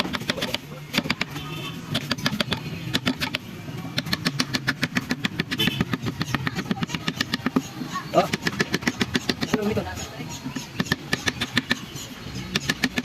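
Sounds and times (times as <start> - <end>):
carving tools tapping and cutting wood: 0.0 - 13.0.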